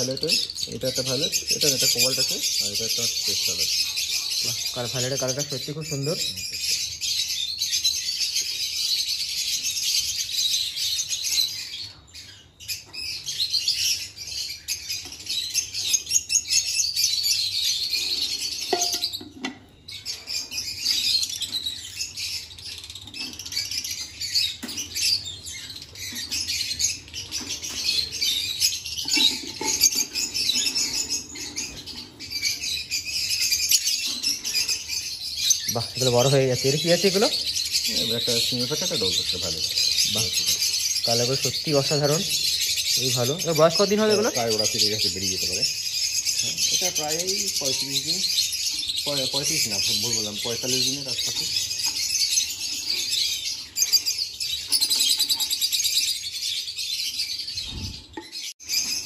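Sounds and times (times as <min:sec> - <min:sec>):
birds chirping and chattering: 0:00.0 - 0:59.0.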